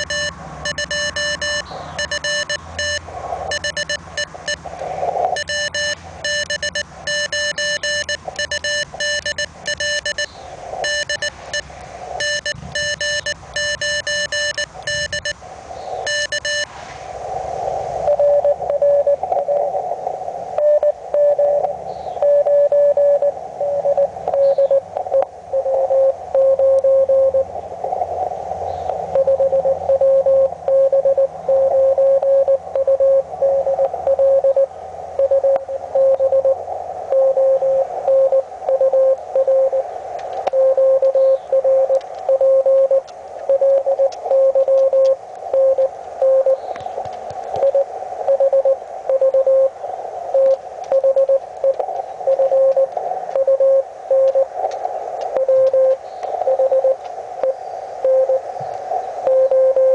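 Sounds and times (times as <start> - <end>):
morse code tone: 0.0 - 4.7, 5.3 - 15.4, 16.0 - 16.7, 18.0 - 19.7, 20.6 - 27.5, 29.1 - 39.9, 40.5 - 46.6, 47.6 - 54.6, 55.3 - 58.5, 59.2 - 59.9
receiver hiss: 0.0 - 59.9.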